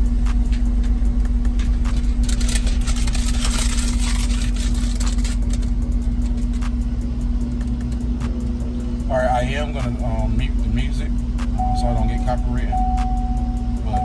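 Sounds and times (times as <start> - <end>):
music from car speakers: 0.0 - 3.0, 5.0 - 14.0
steady low hum: 0.0 - 14.0.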